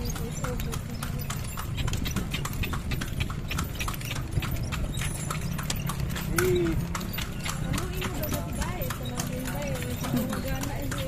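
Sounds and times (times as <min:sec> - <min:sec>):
horse hooves clopping on pavement: 0:00.0 - 0:11.0.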